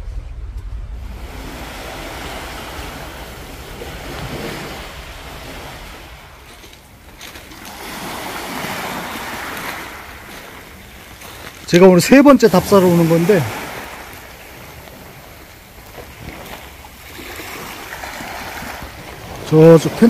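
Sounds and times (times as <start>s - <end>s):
waves washing on pebble beach: 0.9s - 20.0s.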